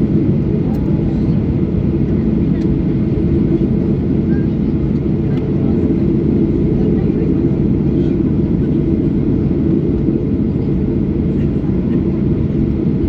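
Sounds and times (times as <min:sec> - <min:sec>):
jet cabin rumble: 0:00.0 - 0:13.0.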